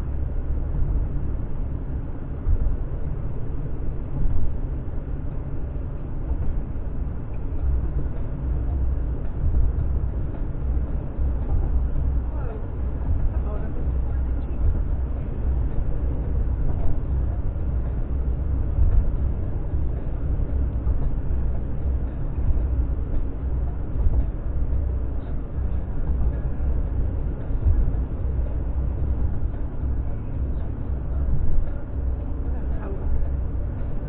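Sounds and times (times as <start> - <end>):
car road rumble from inside: 0.0 - 34.0.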